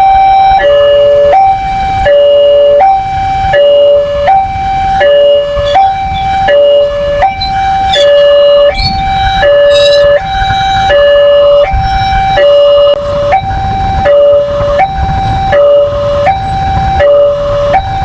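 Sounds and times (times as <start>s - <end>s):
level crossing alarm two-note tone: 0.0s - 18.0s.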